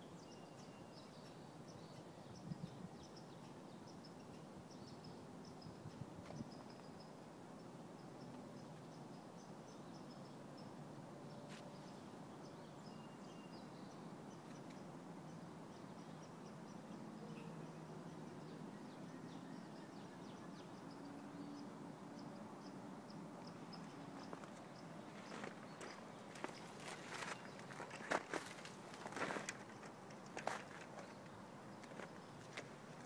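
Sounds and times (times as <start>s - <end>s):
low background noise: 0.0s - 33.0s
small birds chirping: 0.0s - 33.0s.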